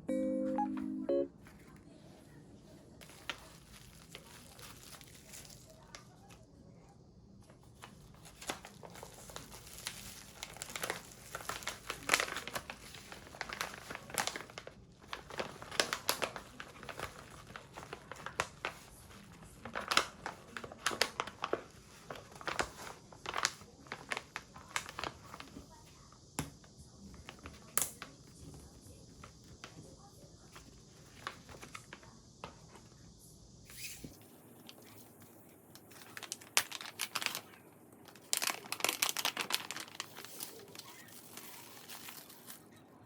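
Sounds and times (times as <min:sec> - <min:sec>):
crinkling and rustling: 0:01.4 - 0:06.4, 0:07.4 - 0:33.0, 0:33.7 - 0:42.8.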